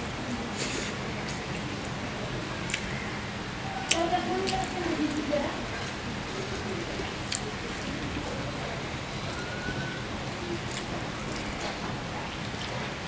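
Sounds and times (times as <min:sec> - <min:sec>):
steady rain hissing: 0:00.0 - 0:13.0.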